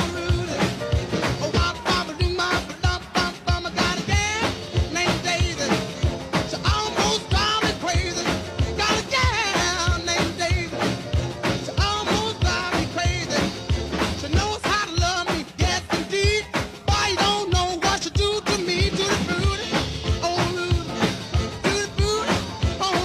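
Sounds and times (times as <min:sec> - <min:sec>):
person singing: 0:00.0 - 0:23.0
upbeat music with drum beat: 0:00.0 - 0:23.0.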